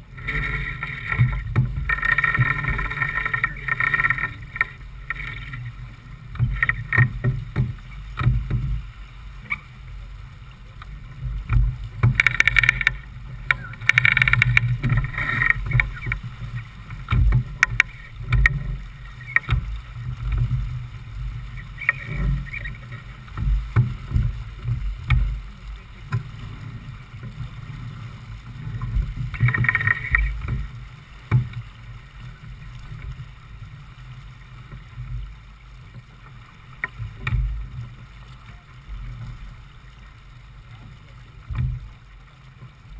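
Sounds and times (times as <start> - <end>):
water rushing along boat hull: 0.0 - 42.9
wind rumbling on microphone: 0.0 - 42.9.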